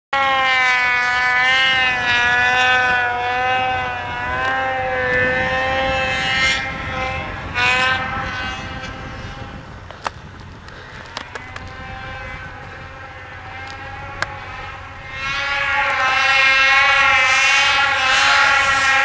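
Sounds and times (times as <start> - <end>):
snowmobile engine at high revs: 0.1 - 19.0.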